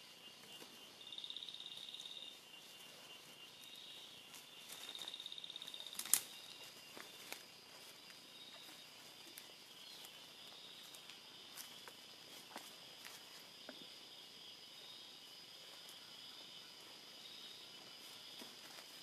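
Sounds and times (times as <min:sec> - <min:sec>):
insects trilling: 0:00.0 - 0:19.0
rapid pulsing insect trill: 0:00.0 - 0:19.0.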